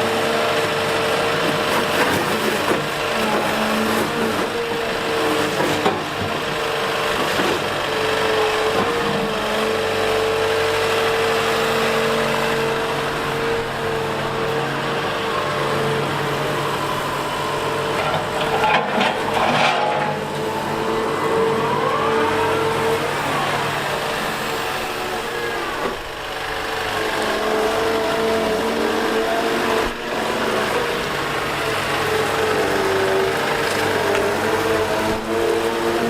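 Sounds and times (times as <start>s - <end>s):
diesel engine running: 0.0s - 36.0s
hydraulic whine: 1.2s - 36.0s.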